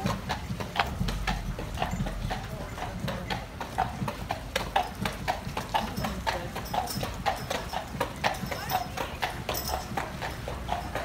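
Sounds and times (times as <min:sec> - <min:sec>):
horse hooves clip-clopping on pavement: 0:00.0 - 0:11.0.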